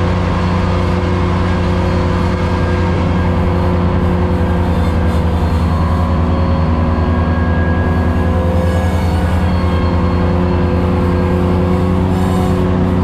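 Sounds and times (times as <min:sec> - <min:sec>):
mower deck cutting grass: 0:00.0 - 0:13.0
tractor diesel engine droning: 0:00.0 - 0:13.0.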